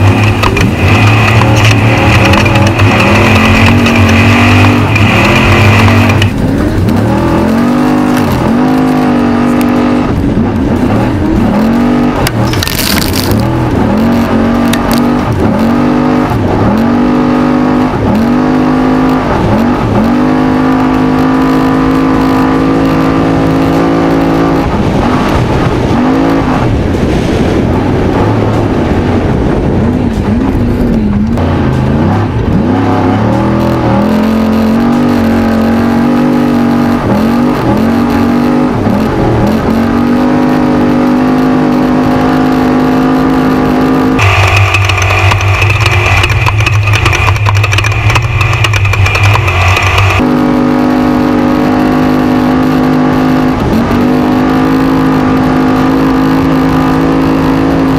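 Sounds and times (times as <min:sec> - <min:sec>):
truck engine revving hard: 0:00.0 - 0:57.9.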